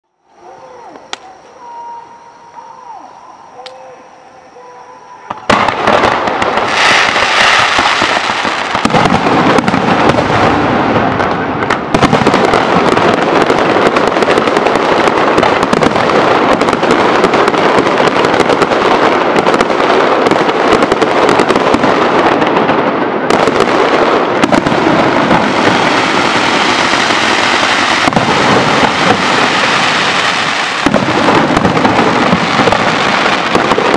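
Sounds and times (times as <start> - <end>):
fireworks crackling and banging: 0.8 - 2.7, 3.5 - 33.9.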